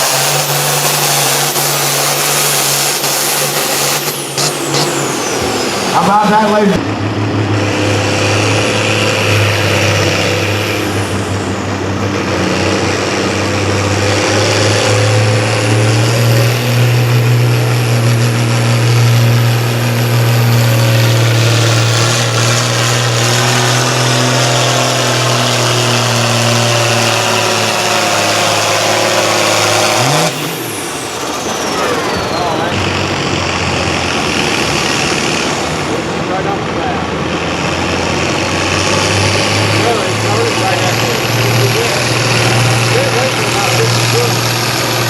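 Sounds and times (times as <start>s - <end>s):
tractor engine running hard: 0.0s - 45.0s.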